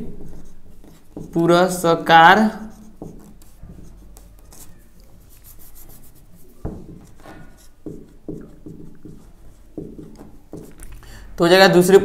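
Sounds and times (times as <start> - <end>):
marker scratching on whiteboard: 0.0 - 10.9.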